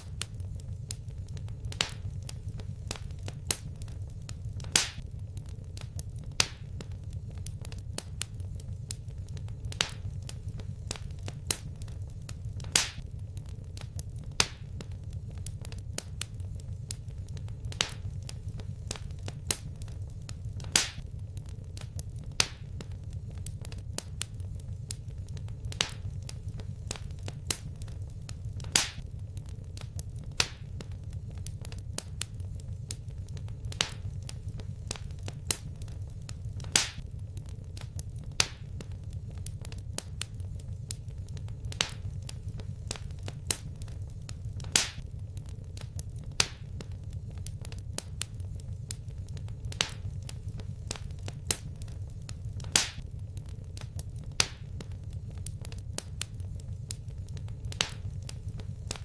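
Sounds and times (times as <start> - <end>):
sharp pops of fire: 0.0 - 59.0
wood fire crackling: 0.0 - 59.0.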